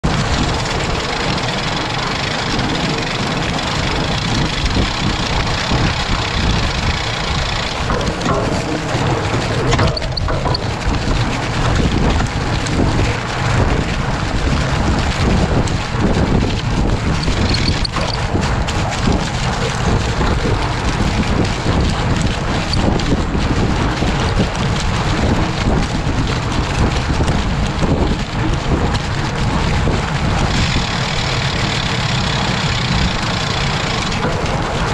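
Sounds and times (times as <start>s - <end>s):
vehicle engine running: 0.0s - 34.9s
wind buffeting microphone: 0.0s - 34.9s.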